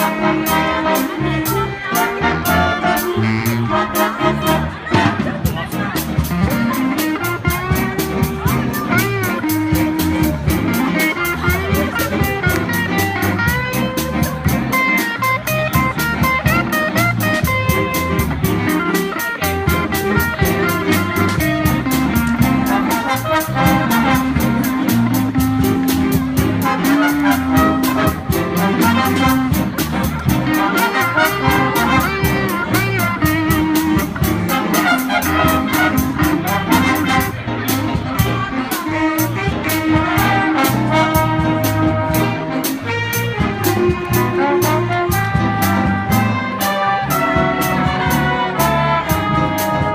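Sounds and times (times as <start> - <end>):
jazz band playing: 0.0 - 49.9.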